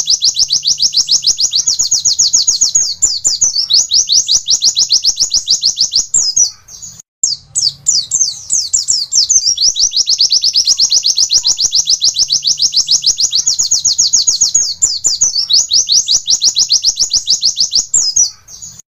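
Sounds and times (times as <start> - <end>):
bird singing rapid high notes: 0.0 - 18.8.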